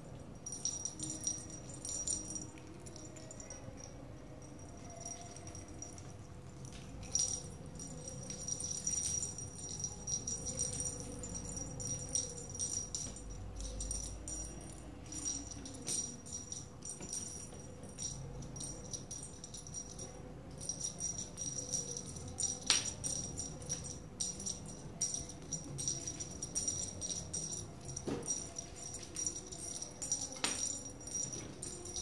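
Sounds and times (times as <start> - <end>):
small bell jingling: 0.0 - 32.0.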